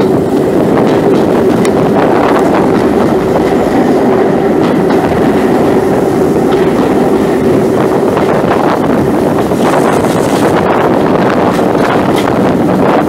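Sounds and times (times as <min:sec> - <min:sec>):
train wheels rolling on rail: 0:00.0 - 0:13.0.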